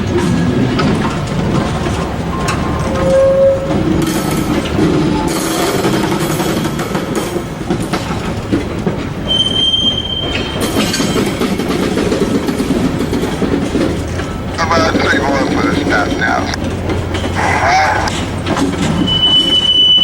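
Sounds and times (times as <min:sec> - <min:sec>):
train wheels rumbling and clacking: 0:00.0 - 0:20.0
high wheel squeal: 0:01.6 - 0:08.2, 0:09.2 - 0:20.0.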